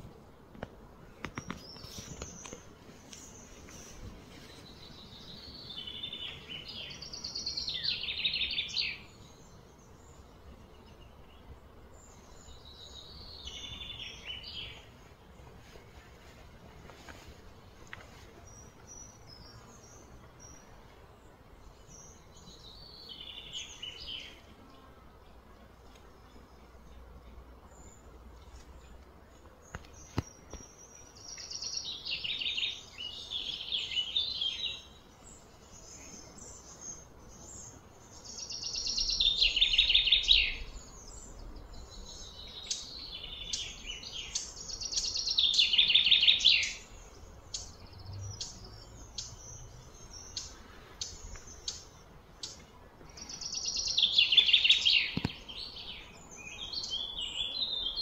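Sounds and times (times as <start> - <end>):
songbird chattering song: 1.2 - 15.0, 16.9 - 58.0.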